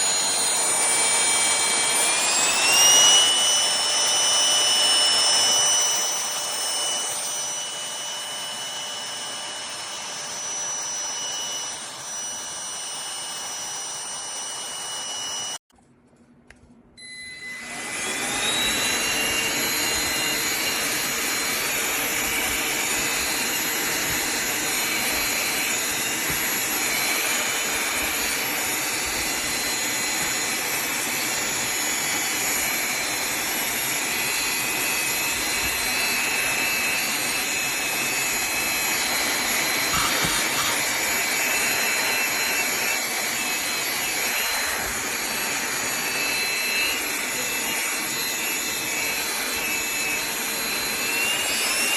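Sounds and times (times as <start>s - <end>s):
handheld vacuum cleaner whine: 0.0s - 15.6s, 17.0s - 51.9s.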